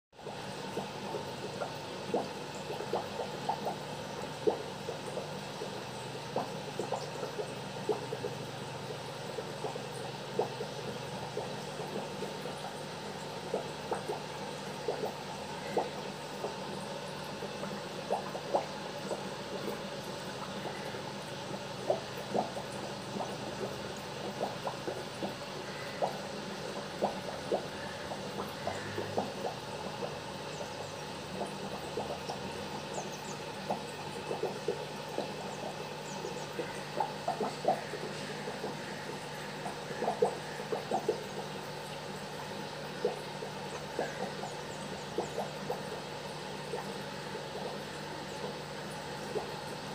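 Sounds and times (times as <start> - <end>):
aquarium air bubbling: 0.2 - 49.9
low steady hum: 0.2 - 49.9.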